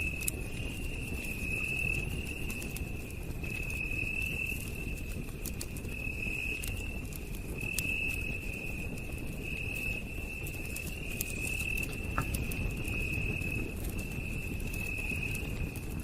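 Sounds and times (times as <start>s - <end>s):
campfire crackling and popping: 0.0s - 16.0s
night insects trilling: 0.0s - 16.0s.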